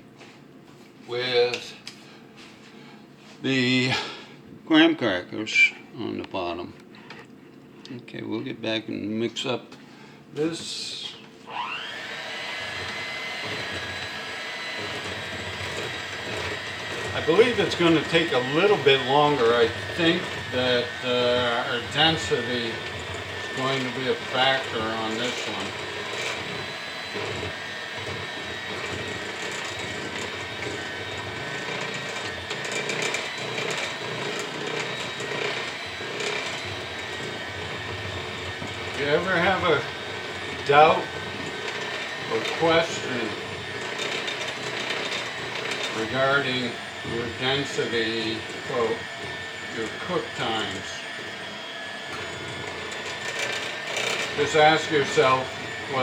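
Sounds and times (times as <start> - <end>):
electric mixer motor whine: 10.4 - 56.0.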